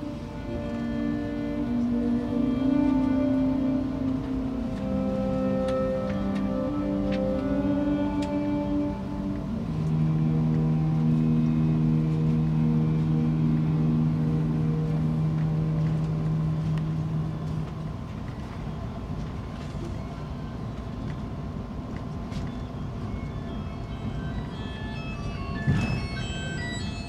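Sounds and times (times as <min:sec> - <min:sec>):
held low musical chord: 0:00.0 - 0:27.0
vehicle rumble inside cabin: 0:01.7 - 0:26.9.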